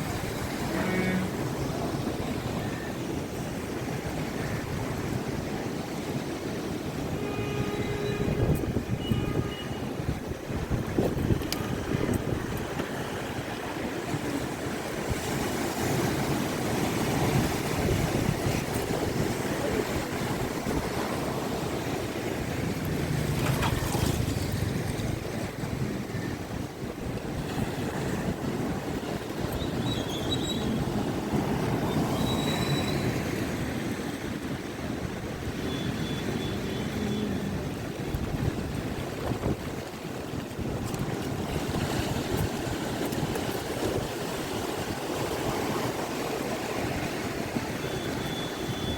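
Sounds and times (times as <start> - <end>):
sea surf: 0.0 - 48.9
wind buffeting microphone: 0.0 - 48.9.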